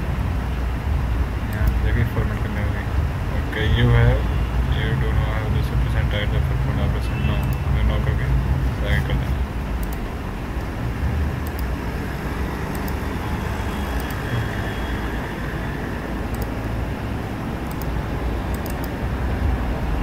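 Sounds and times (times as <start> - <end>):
background rumble and hiss: 0.0 - 20.0.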